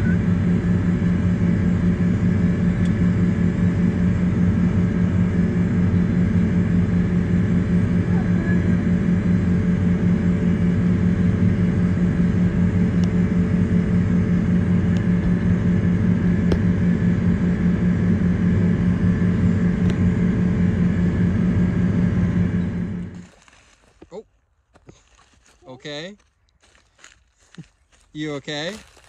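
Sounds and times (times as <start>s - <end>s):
tractor engine running: 0.0s - 24.1s.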